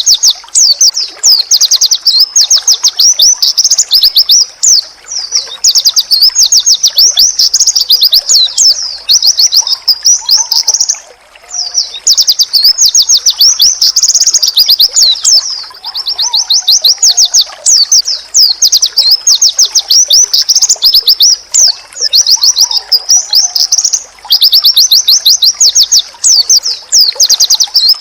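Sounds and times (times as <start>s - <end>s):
bird twittering: 0.0s - 28.0s.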